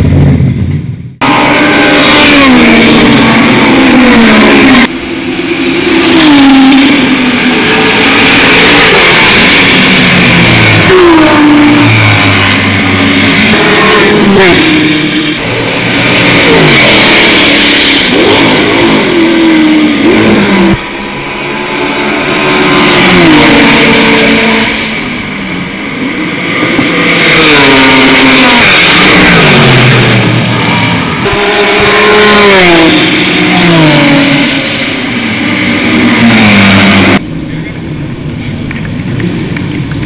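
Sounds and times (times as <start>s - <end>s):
racing car engines at full throttle: 0.0s - 40.0s.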